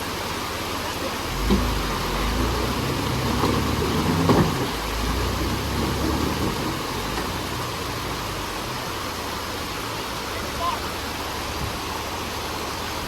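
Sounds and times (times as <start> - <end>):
engine running low: 0.6 - 12.4.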